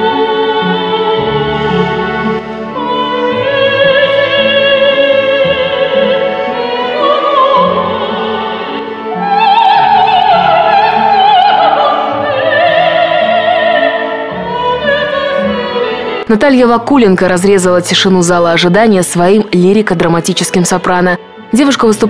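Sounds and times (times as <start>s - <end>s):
soprano singing opera: 0.0s - 22.0s
string orchestra: 0.0s - 22.0s.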